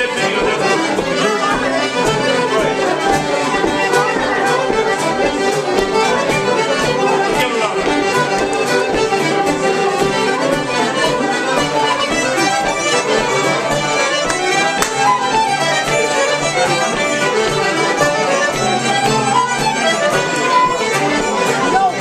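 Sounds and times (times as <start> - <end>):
button accordion: 0.0 - 22.0
fiddle: 0.0 - 22.0
steady tapping beat: 0.0 - 22.0.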